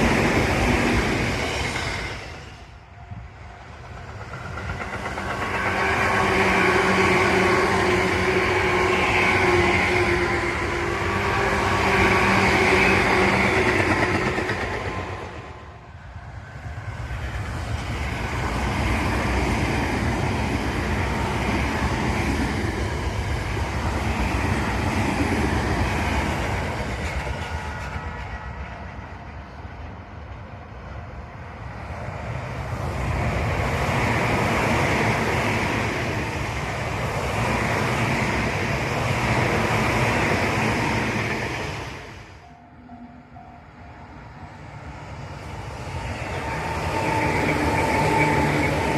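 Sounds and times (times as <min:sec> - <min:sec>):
train rolling past: 0:00.0 - 0:48.9.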